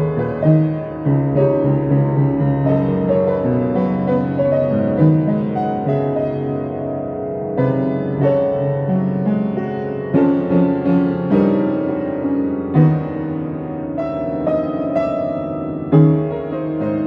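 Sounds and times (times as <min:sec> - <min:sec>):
slow tender piano music: 0:00.0 - 0:17.0.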